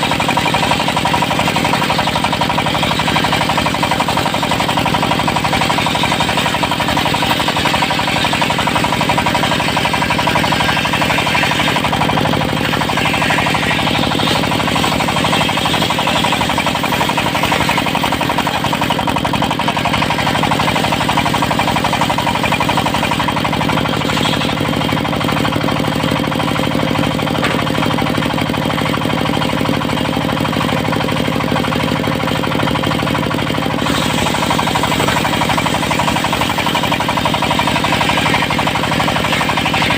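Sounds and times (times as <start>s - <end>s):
diesel engine knocking clatter: 0.0s - 39.9s
saw ripping log: 0.0s - 39.9s.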